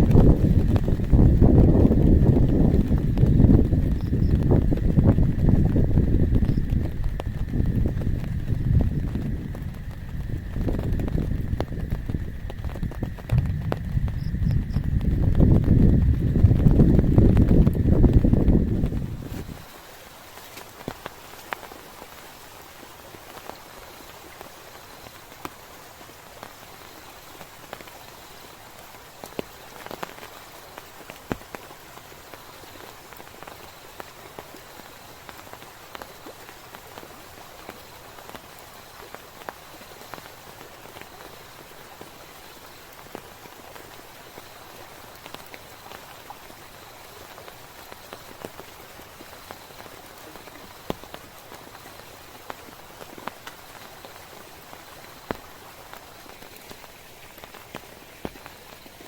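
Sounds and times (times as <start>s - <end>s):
sharp raindrop taps: 0.0s - 19.7s, 20.4s - 22.3s, 23.1s - 59.0s
steady rain falling: 0.0s - 59.0s.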